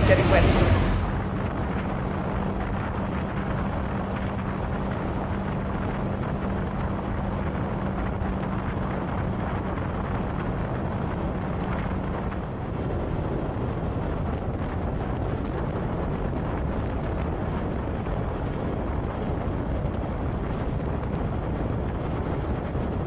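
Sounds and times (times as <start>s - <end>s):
heavy wind: 0.0s - 23.0s
motorcycle engine drone: 0.0s - 23.0s
wind and road noise while riding: 0.0s - 23.0s.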